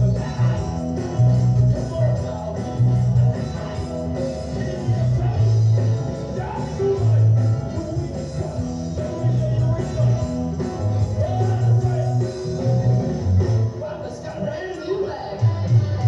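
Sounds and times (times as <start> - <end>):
repeating bass line: 0.0 - 14.2
band playing rock music: 0.0 - 16.0.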